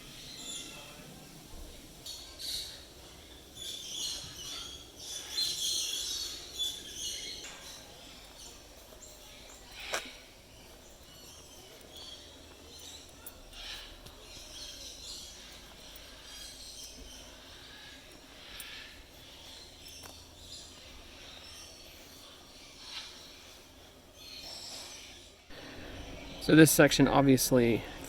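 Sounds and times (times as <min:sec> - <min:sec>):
birds chirping and calling: 0:00.0 - 0:28.0.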